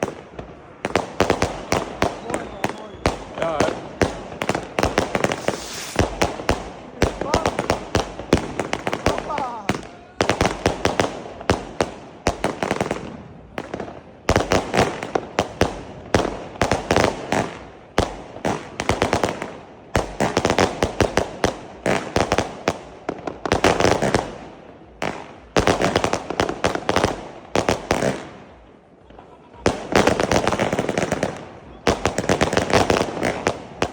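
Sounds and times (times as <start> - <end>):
firework cake pops and bursts: 0.0 - 33.9.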